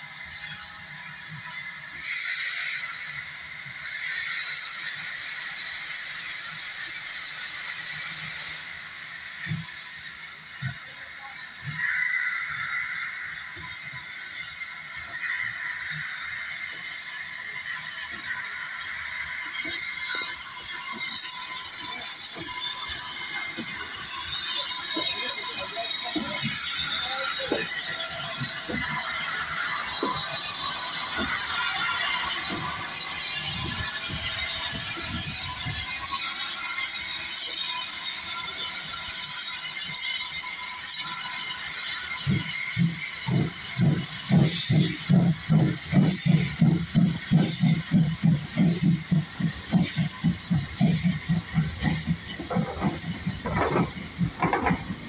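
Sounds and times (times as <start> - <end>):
steam hissing: 0.0 - 55.0
steam locomotive chuffing: 0.0 - 55.0
wheels clanking and squealing: 0.0 - 55.0.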